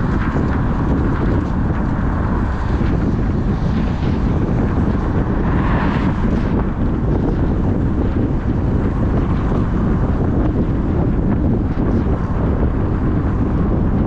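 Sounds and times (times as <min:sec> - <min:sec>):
car driving on wet road: 0:00.0 - 0:14.0
wind on microphone: 0:00.0 - 0:14.0.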